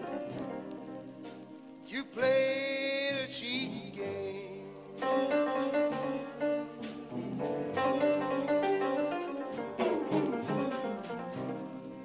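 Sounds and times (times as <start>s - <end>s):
instrumental music with piano: 0.0s - 12.0s.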